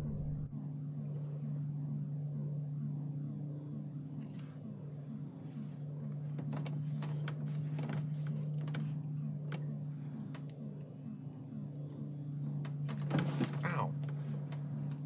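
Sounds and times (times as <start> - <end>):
pulsing low electronic hum: 0.0 - 15.0.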